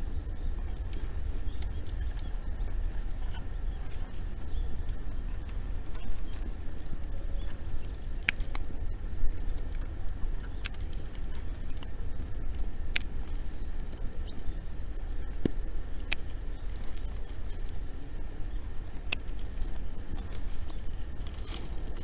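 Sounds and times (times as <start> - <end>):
low fire rumble: 0.0 - 22.0
bonfire crackling and popping: 0.1 - 22.0.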